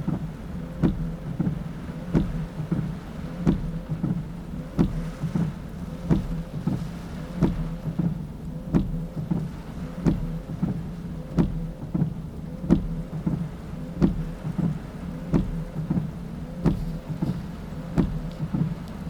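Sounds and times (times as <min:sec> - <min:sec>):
car engine hum: 0:00.0 - 0:19.0
heavy rain on car: 0:00.0 - 0:19.0
windscreen wipers knocking: 0:00.0 - 0:19.0.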